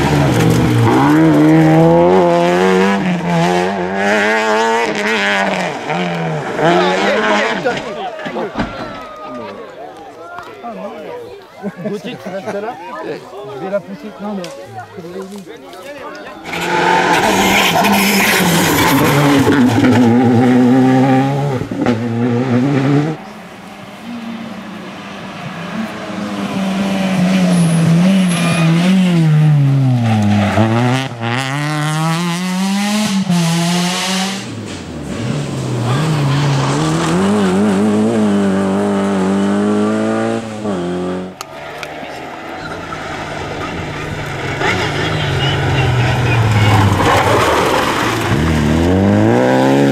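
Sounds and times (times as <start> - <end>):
rally car engines revving: 0.0 - 9.5, 16.1 - 49.9.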